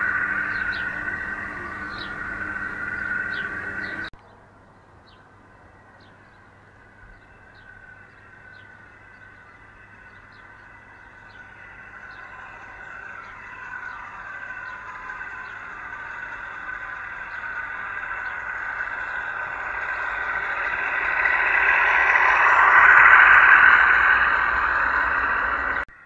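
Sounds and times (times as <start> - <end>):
model train electric drive whine: 0.0 - 4.1, 5.4 - 26.0.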